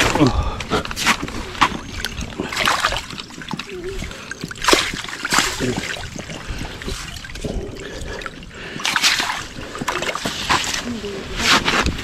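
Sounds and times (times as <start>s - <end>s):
fish splashing in water: 1.0s - 11.6s
water trickling: 1.2s - 11.2s.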